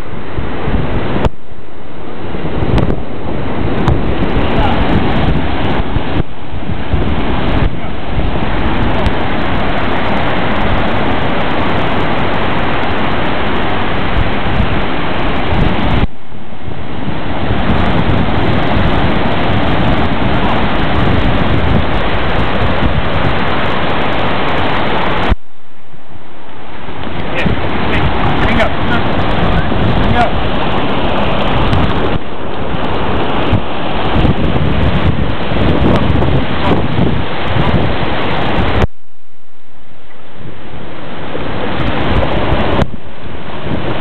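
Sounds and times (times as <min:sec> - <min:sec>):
ocean surf washing in: 0:00.0 - 0:44.0
wind buffeting microphone: 0:00.0 - 0:44.0.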